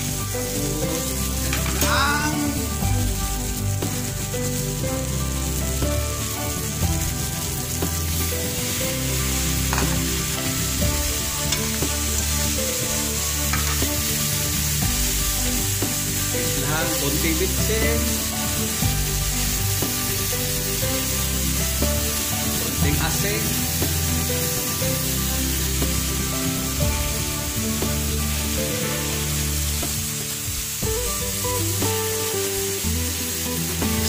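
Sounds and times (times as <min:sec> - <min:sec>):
chicken and gourd sizzling in oil: 0:00.0 - 0:34.0.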